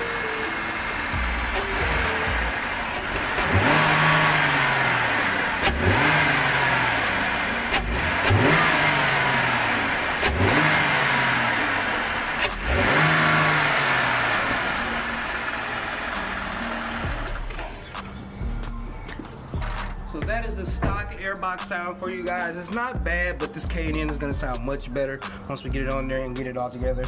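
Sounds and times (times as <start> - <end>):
car engine revving: 0.0 - 21.8
car engine idling: 0.0 - 27.0.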